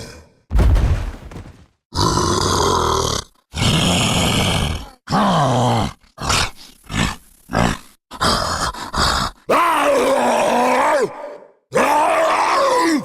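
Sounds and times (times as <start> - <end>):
voice growling and groaning: 1.9 - 13.0.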